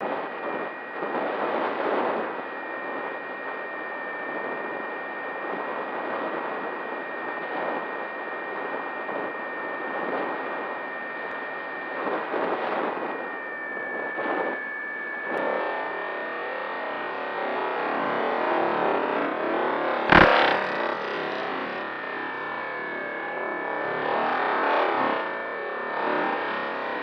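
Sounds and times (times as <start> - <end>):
electric motor and propeller whine: 0.0 - 27.0.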